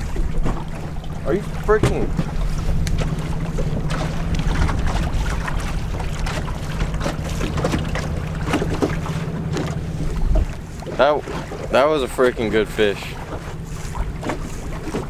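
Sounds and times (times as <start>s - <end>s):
steady low hum: 0.0s - 15.0s
waves slapping boat hull: 0.0s - 15.0s
wind buffeting microphone: 0.0s - 15.0s.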